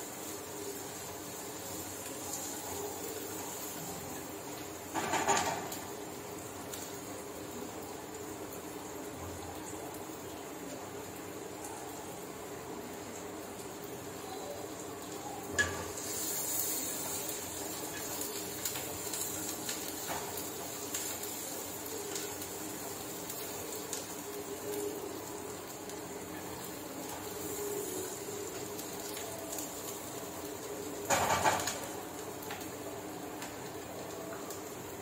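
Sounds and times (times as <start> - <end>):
onions sizzling in oil: 0.0 - 35.0.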